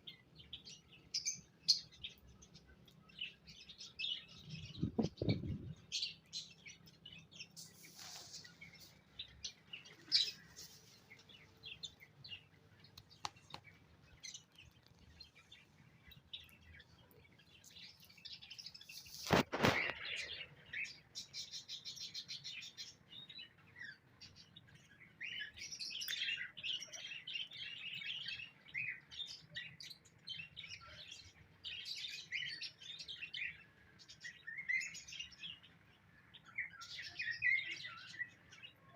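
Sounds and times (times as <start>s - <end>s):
cage birds chirping: 0.0s - 38.9s.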